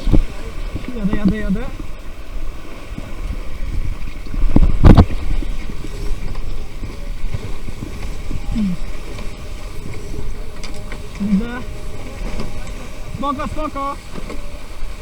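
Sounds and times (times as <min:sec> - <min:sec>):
water rushing past hulls: 0:00.0 - 0:15.0
wind buffeting microphone: 0:00.0 - 0:15.0.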